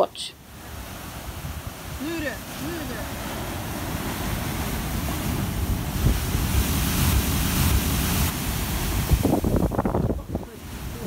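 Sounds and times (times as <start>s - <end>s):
ocean surf breaking on rocks: 0.0s - 11.0s
wind buffeting microphone: 0.4s - 11.0s.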